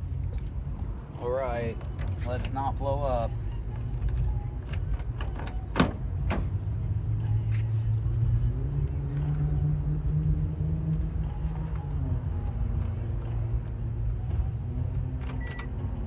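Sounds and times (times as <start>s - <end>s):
car engine revving and idling: 2.4s - 16.0s.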